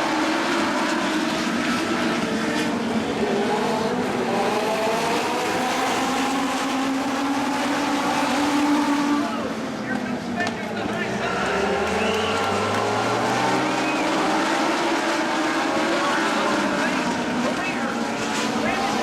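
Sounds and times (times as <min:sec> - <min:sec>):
race car engines at high revs: 0:00.0 - 0:19.0.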